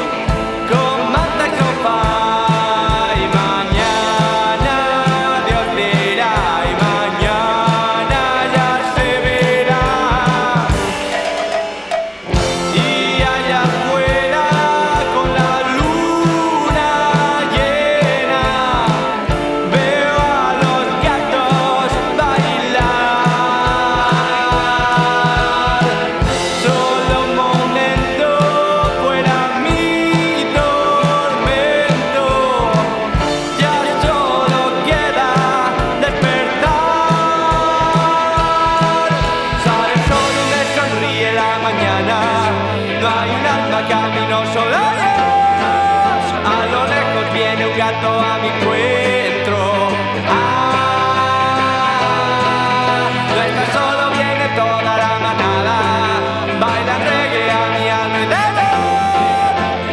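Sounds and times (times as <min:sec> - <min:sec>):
rock song with singing: 0:00.0 - 0:59.9
steady drum beat: 0:00.0 - 0:59.9.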